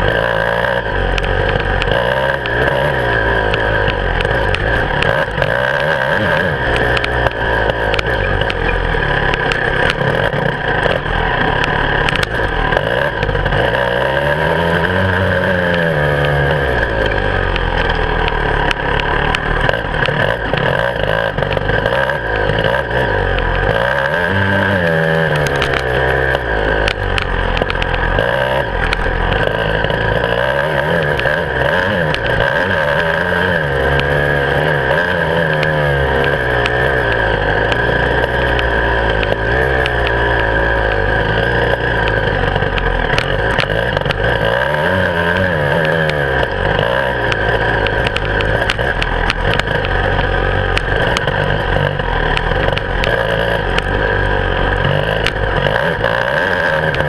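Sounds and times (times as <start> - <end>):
bike knocking and clattering: 0.0 - 57.0
motorcycle engine revving: 0.0 - 57.0.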